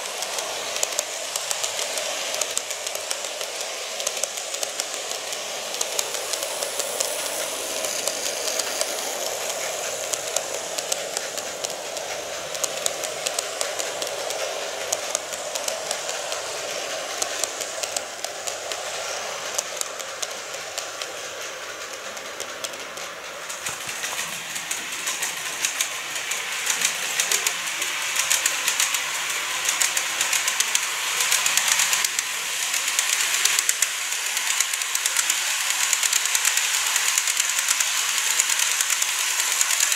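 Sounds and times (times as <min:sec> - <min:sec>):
model train motor whirr: 0:00.0 - 0:39.9
small wheels clicking on rails: 0:00.0 - 0:39.9.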